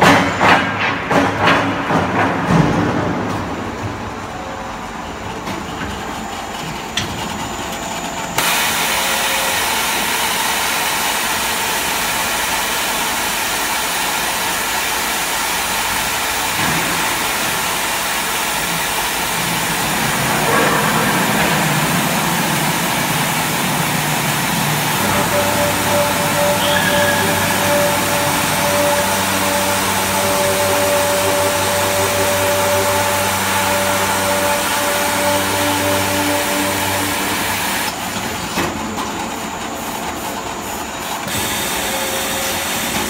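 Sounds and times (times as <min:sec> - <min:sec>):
metal cutting saw humming and hissing: 0:06.2 - 0:43.0.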